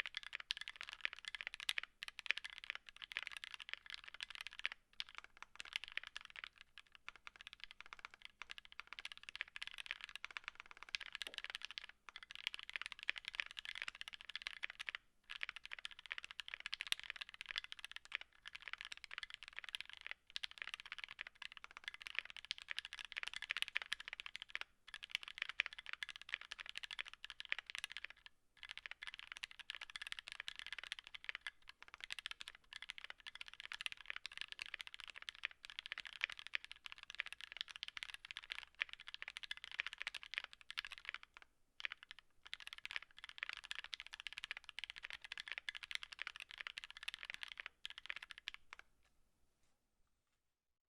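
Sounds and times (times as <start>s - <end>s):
fast typing on mechanical keyboard: 0.0s - 48.8s.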